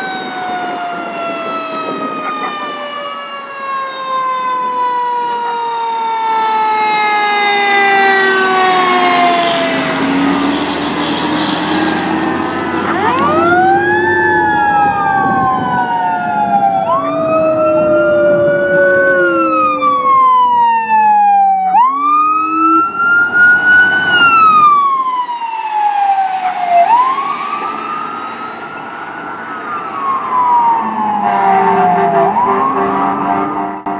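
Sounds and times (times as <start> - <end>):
electronic siren wail: 0.0 - 33.9
low-frequency siren: 0.0 - 33.9
siren winding down: 0.0 - 33.9.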